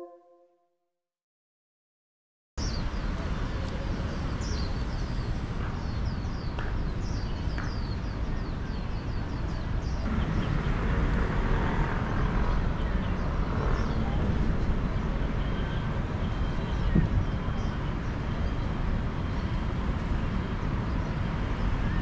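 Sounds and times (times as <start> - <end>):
low rumble of city traffic: 2.6 - 22.0.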